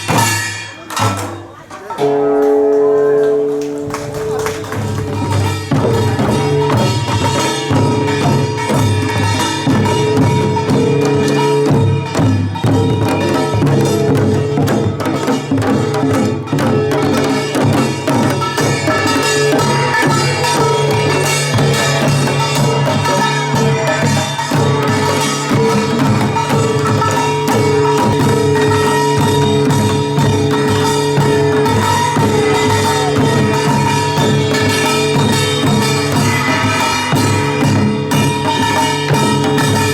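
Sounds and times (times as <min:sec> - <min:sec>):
drums beating fast rhythm: 0:00.0 - 0:01.9, 0:03.7 - 0:39.9
small gongs beating: 0:00.0 - 0:39.9.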